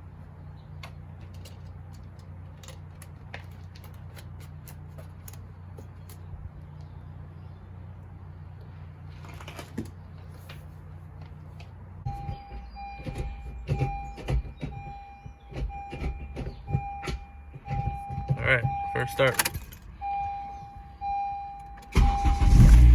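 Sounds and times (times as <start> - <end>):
handling noises: 0.4 - 6.9, 8.6 - 22.0.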